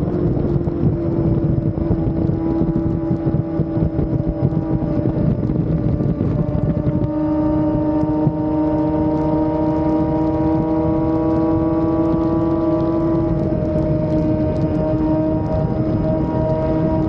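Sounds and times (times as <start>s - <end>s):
motorcycle engine droning: 0.0s - 17.0s
road rumble: 0.0s - 17.0s
wind noise: 0.0s - 17.0s.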